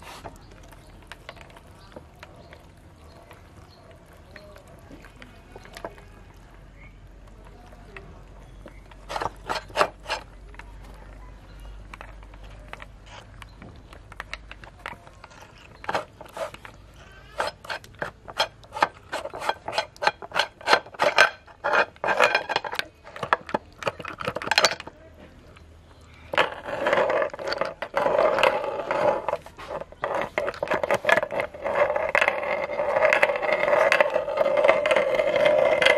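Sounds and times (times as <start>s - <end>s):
wet grinding and squelching: 0.0s - 35.9s.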